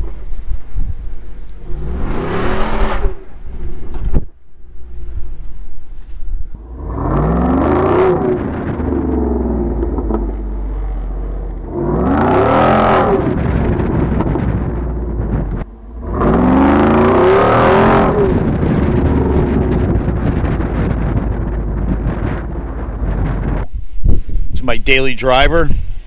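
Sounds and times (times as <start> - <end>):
engine accelerating hard: 1.5 - 5.4, 6.5 - 23.7.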